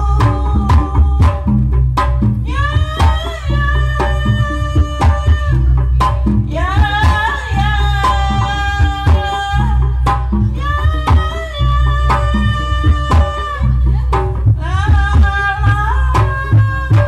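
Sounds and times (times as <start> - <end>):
hand drums beating: 0.0 - 17.0.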